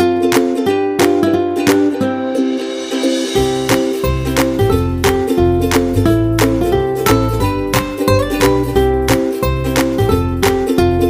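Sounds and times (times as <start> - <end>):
ukulele strumming music: 0.0 - 11.0.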